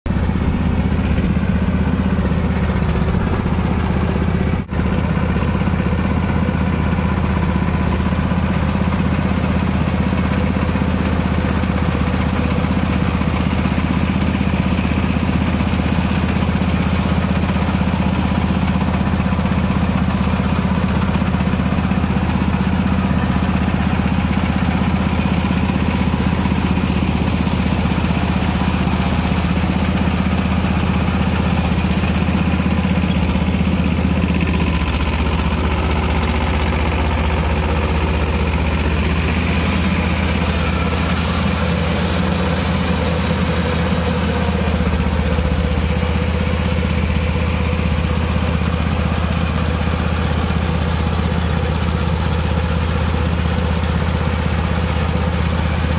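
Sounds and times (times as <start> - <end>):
harvester engine running: 0.1 - 55.9.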